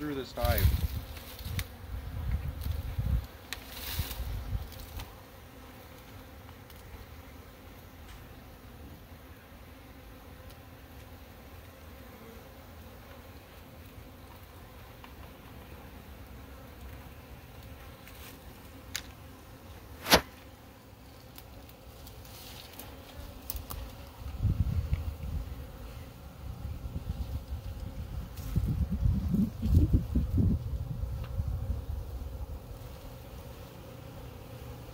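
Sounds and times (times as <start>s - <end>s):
bees buzzing: 0.0s - 34.9s.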